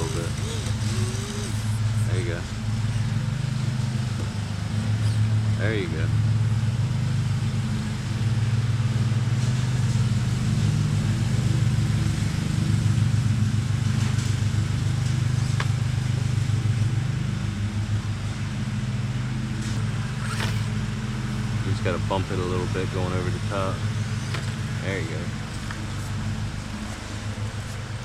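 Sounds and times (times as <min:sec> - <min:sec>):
low mechanical drone: 0:00.0 - 0:28.0.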